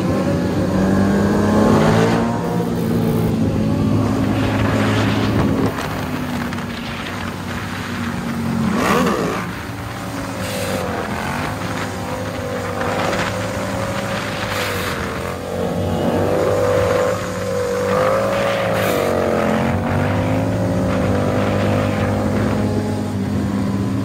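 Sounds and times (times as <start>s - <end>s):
motorcycle engine revving: 0.0s - 24.0s
motorcycle engines running: 0.0s - 24.0s.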